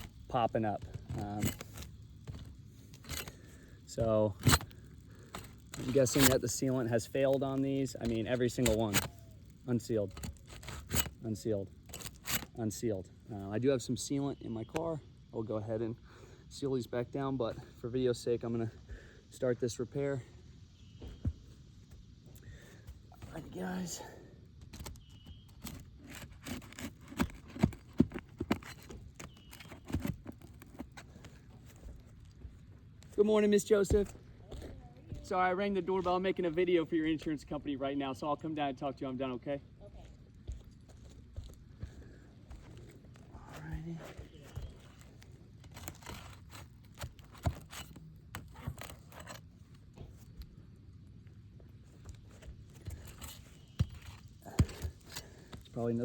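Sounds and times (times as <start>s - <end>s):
scrapes and crunches on roof: 0.0s - 13.5s, 21.0s - 37.6s, 40.0s - 51.0s, 51.6s - 56.0s.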